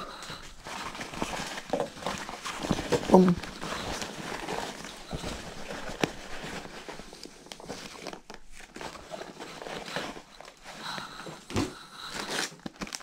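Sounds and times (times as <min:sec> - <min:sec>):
fabric and plastic rustling: 0:00.0 - 0:13.0.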